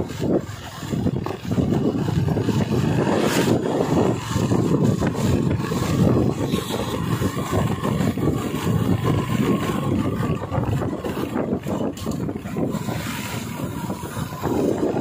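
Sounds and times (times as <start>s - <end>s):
vehicle engine and tyre noise: 0.0s - 15.0s
wind buffeting microphone: 0.0s - 15.0s.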